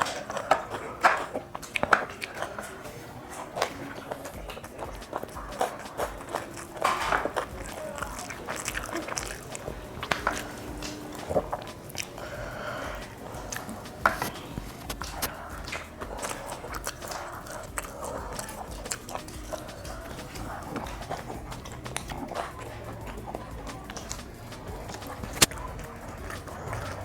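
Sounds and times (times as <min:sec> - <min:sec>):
sharp crunches while eating: 0:00.0 - 0:27.0
person biting and chewing: 0:03.4 - 0:27.0.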